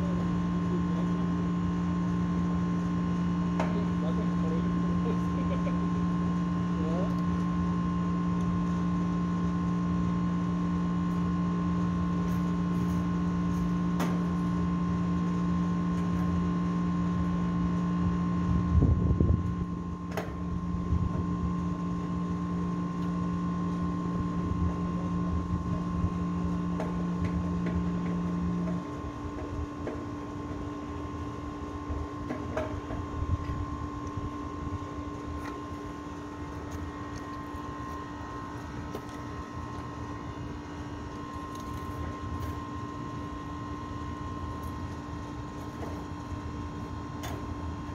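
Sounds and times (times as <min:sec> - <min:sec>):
electric machine hum: 0:00.0 - 0:47.9.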